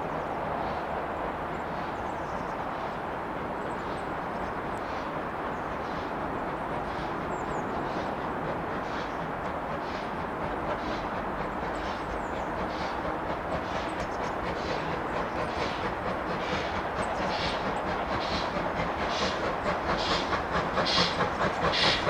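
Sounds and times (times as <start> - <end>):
steam train rumbling: 0.0 - 22.0.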